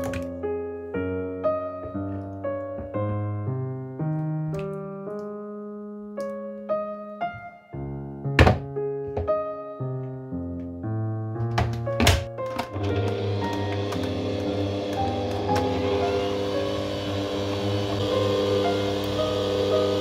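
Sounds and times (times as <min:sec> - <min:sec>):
electric piano music: 0:00.0 - 0:20.0.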